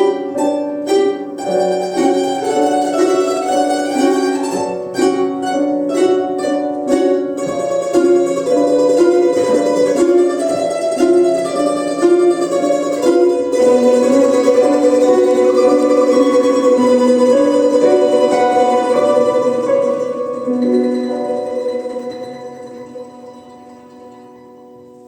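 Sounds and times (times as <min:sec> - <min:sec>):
plucked lutes playing melody: 0:00.0 - 0:25.0.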